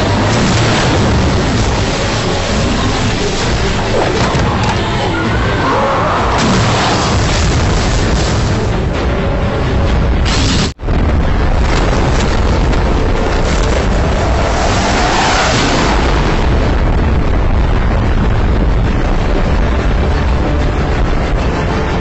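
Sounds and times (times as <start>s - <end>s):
booming rumble: 0.0s - 22.0s.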